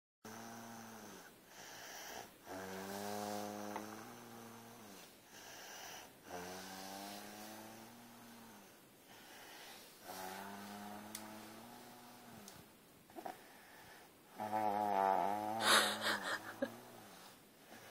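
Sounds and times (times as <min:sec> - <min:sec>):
heavy snoring: 0:00.3 - 0:12.5, 0:14.3 - 0:17.9.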